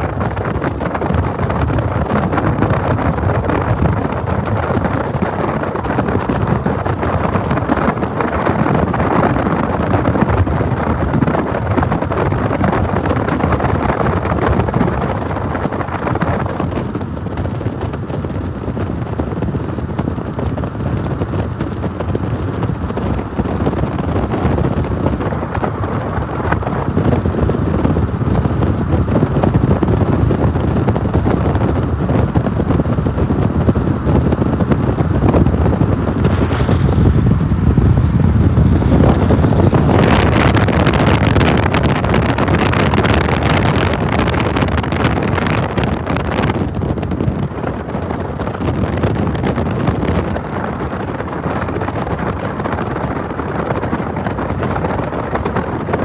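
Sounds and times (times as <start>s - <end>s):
freight train rumble: 0.0s - 56.0s
wind on microphone: 0.0s - 56.0s.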